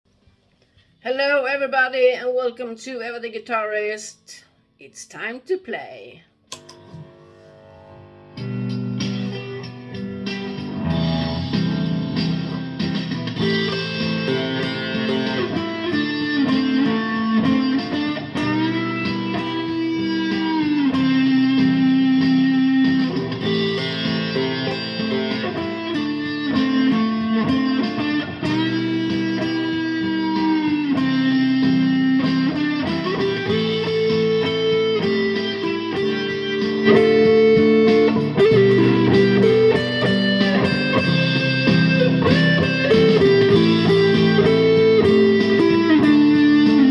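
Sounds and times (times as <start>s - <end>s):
guitar slow gliding melody: 6.5s - 46.9s.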